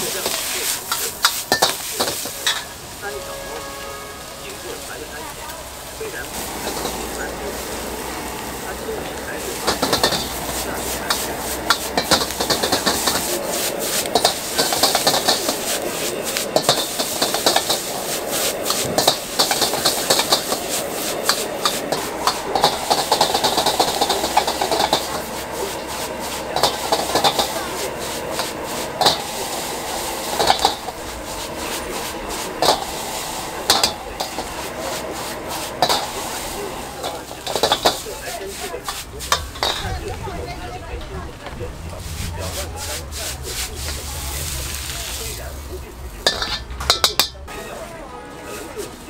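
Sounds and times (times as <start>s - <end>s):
metal ladle scraping a wok: 0.0s - 40.2s, 40.9s - 49.0s
food sizzling: 0.0s - 49.0s
gas burner hissing: 0.0s - 49.0s.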